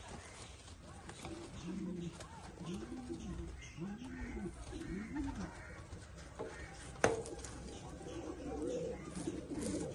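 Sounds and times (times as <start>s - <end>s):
pigeon cooing: 1.2s - 9.9s.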